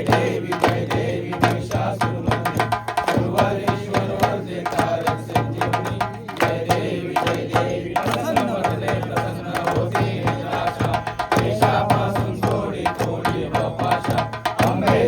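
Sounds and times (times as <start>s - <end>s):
fast dense drum beats: 0.0s - 15.0s.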